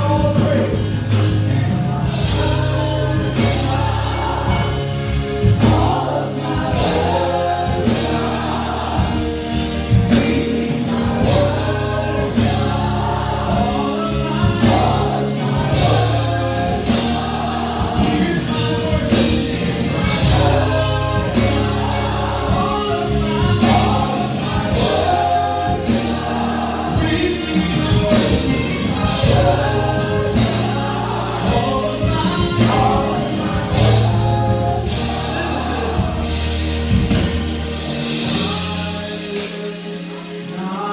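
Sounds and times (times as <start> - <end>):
band with bass and drums: 0.0 - 40.9
choir singing: 0.0 - 40.9.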